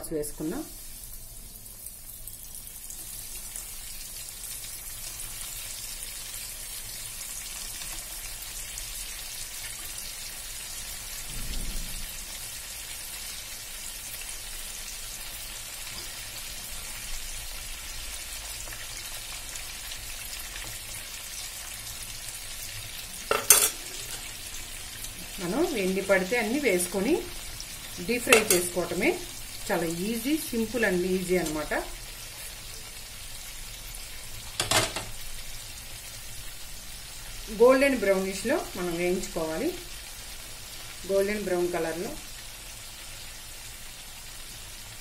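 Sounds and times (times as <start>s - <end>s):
oil sizzling while deep-frying: 0.0s - 45.0s.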